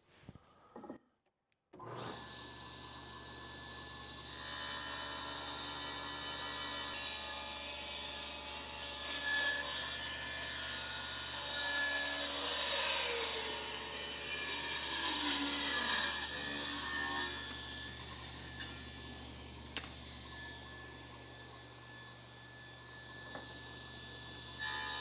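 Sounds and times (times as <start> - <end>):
table saw cutting wood: 1.8 - 25.0.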